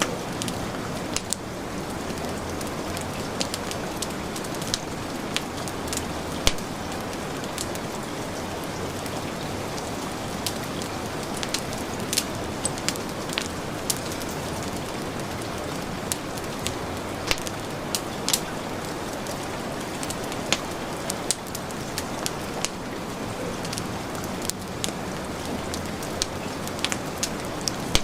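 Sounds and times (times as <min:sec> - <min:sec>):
heavy rain hiss: 0:00.0 - 0:28.0
wood fire crackling: 0:00.0 - 0:28.0.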